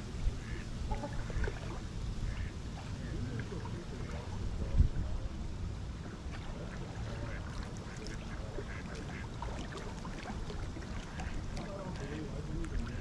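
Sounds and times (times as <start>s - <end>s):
steady low rumble: 0.0s - 13.0s
ducks quacking: 0.3s - 4.7s, 6.0s - 13.0s.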